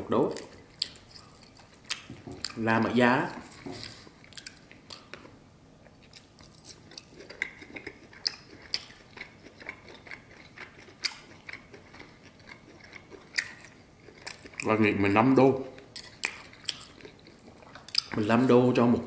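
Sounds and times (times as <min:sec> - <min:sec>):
person chewing: 0:00.3 - 0:18.3.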